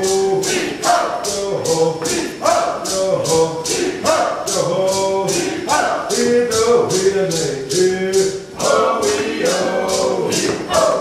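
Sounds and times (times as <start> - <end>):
steady percussive beat: 0.0 - 11.0
voices chanting: 0.0 - 11.0.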